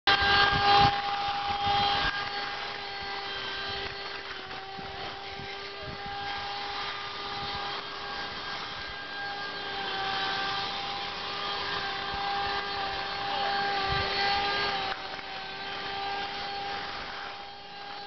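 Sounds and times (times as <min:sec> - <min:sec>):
electric power tool motor humming: 0:00.1 - 0:18.0.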